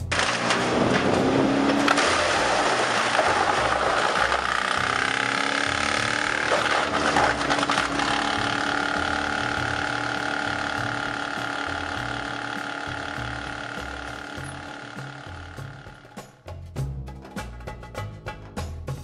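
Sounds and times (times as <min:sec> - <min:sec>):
wood chipper engine running: 0:00.0 - 0:16.4.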